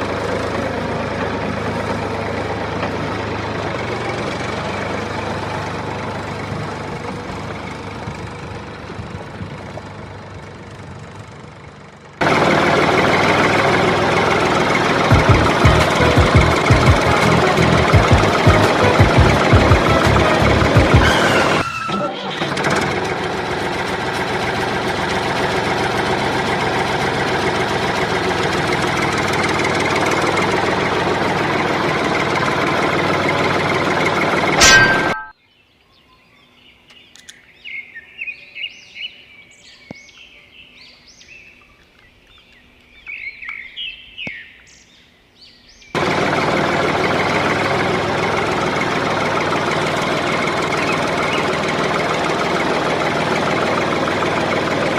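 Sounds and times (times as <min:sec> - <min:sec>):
engine running: 0:00.0 - 0:35.4, 0:45.9 - 0:54.9.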